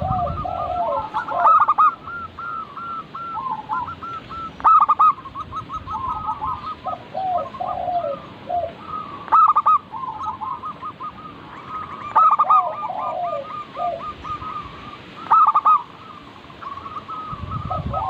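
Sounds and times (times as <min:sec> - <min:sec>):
dove staccato coos: 0:00.0 - 0:18.0
doves cooing continuously: 0:00.0 - 0:18.0.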